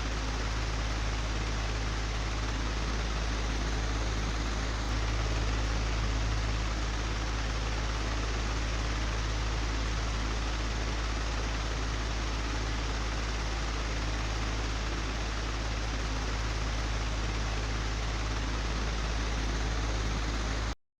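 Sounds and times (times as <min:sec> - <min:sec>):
electric fan whirring: 0:00.0 - 0:20.8.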